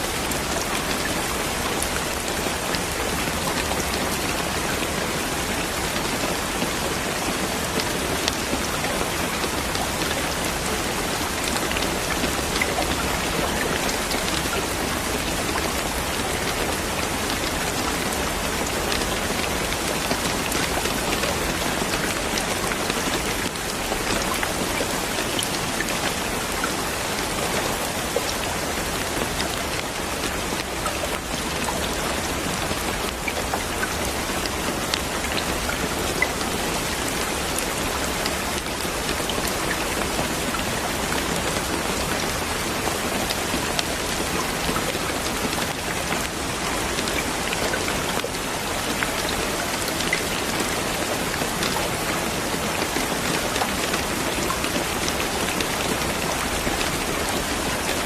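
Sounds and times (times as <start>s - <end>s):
dense rain pattering: 0.0s - 58.0s.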